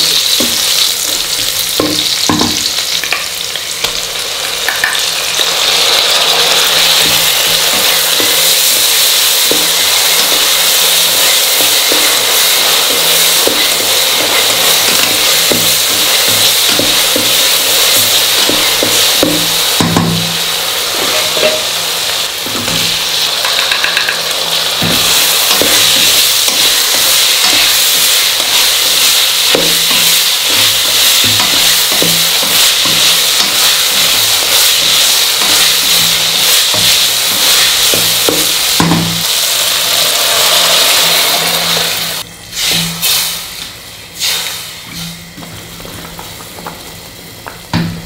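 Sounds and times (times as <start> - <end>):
vegetables sizzling in hot oil: 0.0 - 48.0.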